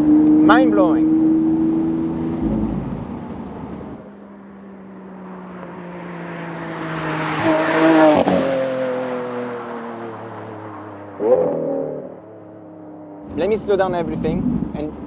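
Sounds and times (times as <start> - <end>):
sports car engine roaring: 0.0 - 15.0.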